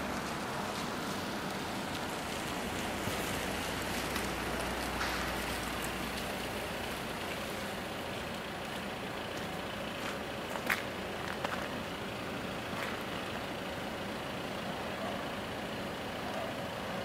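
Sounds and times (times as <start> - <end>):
car pulling up: 0.0 - 17.0
road vehicle noise: 0.0 - 17.0.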